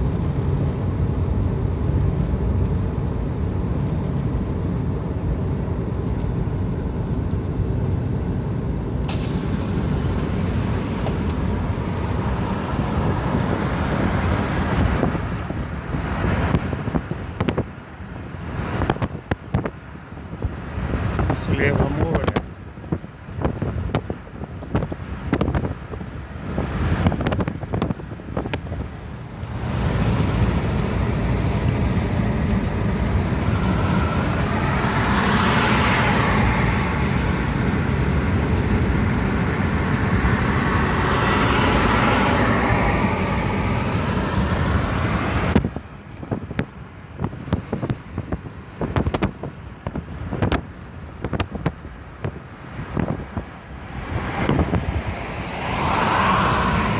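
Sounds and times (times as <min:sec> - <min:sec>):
car road noise: 0:00.0 - 0:56.9
wind buffeting microphone: 0:09.8 - 0:56.9.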